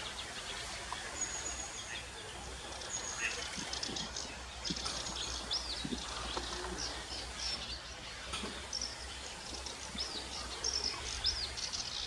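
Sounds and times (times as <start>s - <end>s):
background hiss: 0.0s - 12.0s
songbirds chirping: 0.0s - 12.0s.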